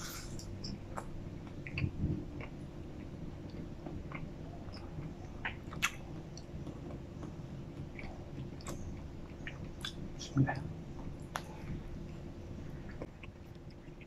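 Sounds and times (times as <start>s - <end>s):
chewing with wet mouth sounds: 0.0s - 14.0s.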